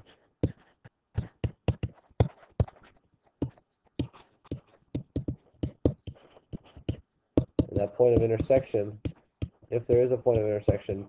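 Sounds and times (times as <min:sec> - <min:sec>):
stylus tapping on tablet screen: 0:00.4 - 0:00.6, 0:01.2 - 0:11.0.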